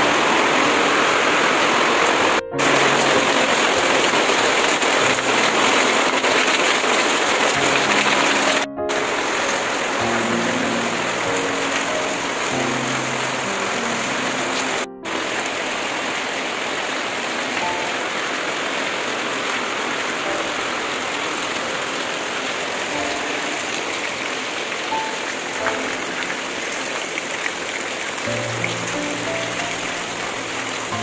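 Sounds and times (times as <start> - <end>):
runoff pouring off roof: 0.0 - 31.0
steady rain: 0.0 - 31.0.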